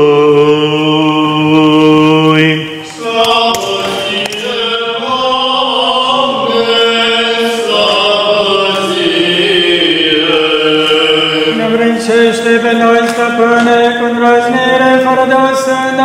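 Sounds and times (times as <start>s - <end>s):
voices chanting long held notes: 0.0s - 16.0s.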